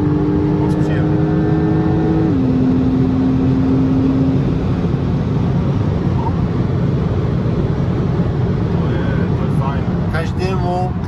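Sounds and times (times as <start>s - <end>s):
car engine at speed: 0.0s - 11.0s.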